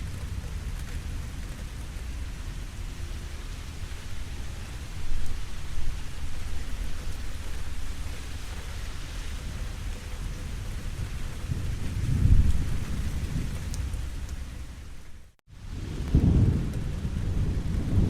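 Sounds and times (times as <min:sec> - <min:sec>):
steady rain falling: 0:00.0 - 0:18.0
thunder rumbling: 0:00.0 - 0:18.0.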